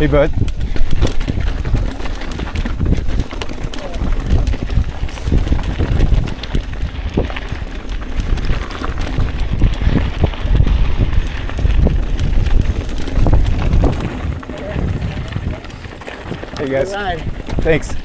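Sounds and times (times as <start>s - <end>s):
bike rattling over rocks: 0.0s - 18.0s
wind rumbling on microphone: 0.0s - 18.0s.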